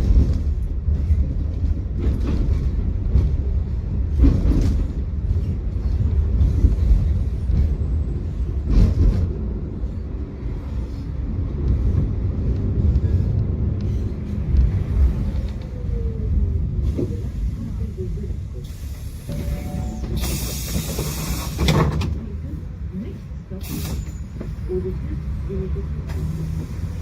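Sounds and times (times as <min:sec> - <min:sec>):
tram rumbling on track: 0:00.0 - 0:27.0.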